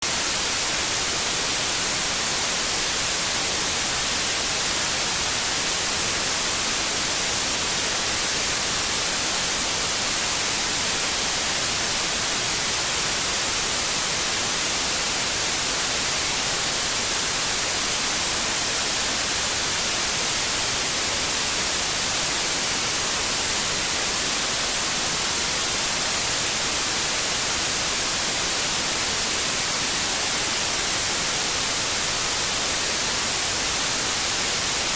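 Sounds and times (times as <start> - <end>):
steady white noise hiss: 0.0 - 34.9.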